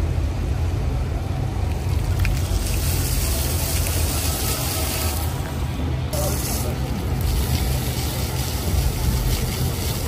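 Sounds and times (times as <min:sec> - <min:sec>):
steady low rumble: 0:00.0 - 0:10.0
fountain jets splashing on paving: 0:01.5 - 0:10.0.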